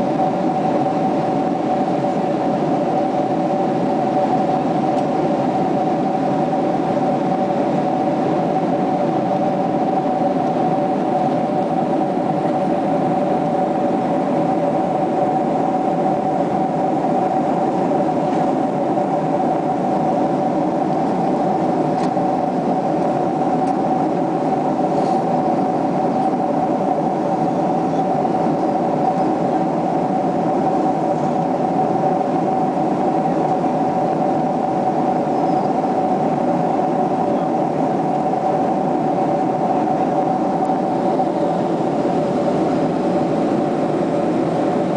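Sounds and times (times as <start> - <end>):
engine and airflow rush: 0.0 - 44.9
steady mid-pitched hums: 0.0 - 44.9.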